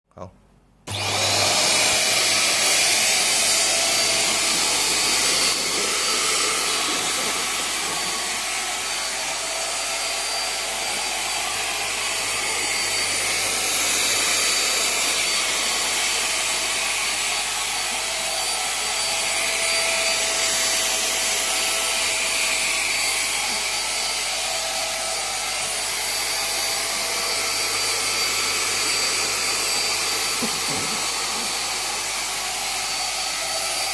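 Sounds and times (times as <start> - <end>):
handheld vacuum cleaner running: 0.9 - 33.9.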